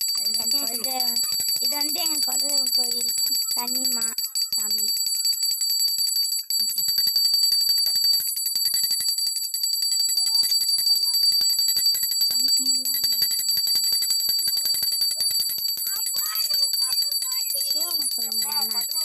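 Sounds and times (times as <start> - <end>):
hand bell rung rapidly: 0.0 - 19.0.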